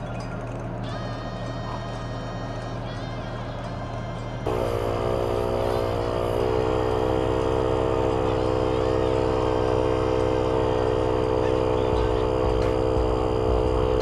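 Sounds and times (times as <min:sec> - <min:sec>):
air compressor motor humming: 0:00.0 - 0:14.0.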